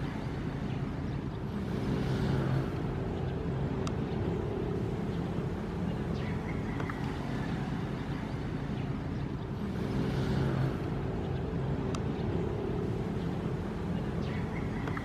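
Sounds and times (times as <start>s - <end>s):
ocean waves: 0.0s - 15.0s
steady low rumble: 0.0s - 15.0s.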